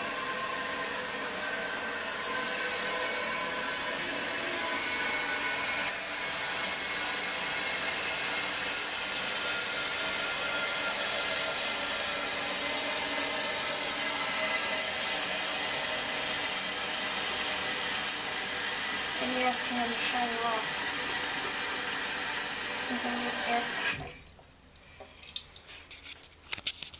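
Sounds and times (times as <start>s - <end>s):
toilet fill valve hissing: 0.0s - 25.7s.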